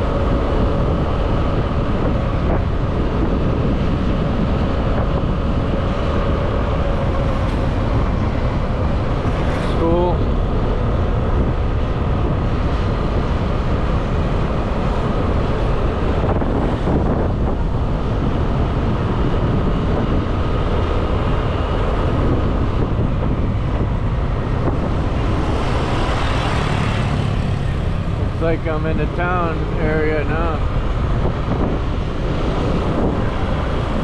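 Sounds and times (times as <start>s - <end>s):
motorbike running: 0.0s - 34.0s
wind buffeting microphone: 0.0s - 34.0s.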